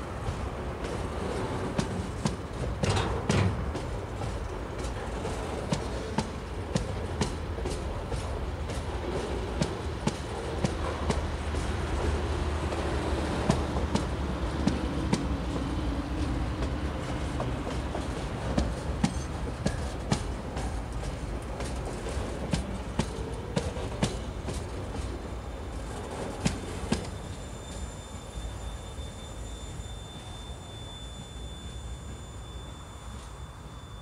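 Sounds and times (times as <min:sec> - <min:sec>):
train rumble: 0:00.0 - 0:34.0
wheels clicking over rail joints: 0:00.2 - 0:27.8.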